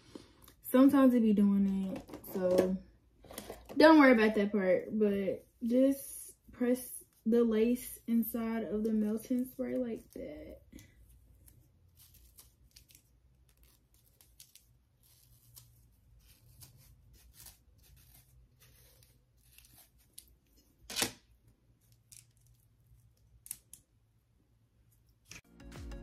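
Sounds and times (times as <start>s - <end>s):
comb scratching and rustling: 1.6s - 21.0s, 21.7s - 23.8s.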